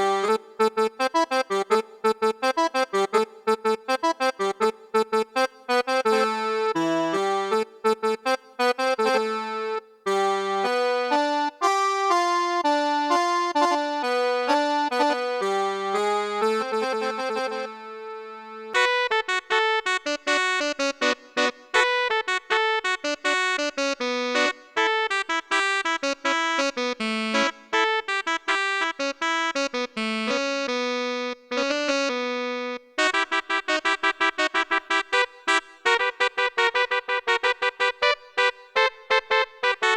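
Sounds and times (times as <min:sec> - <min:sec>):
electronic keyboard melody: 0:00.0 - 0:39.9.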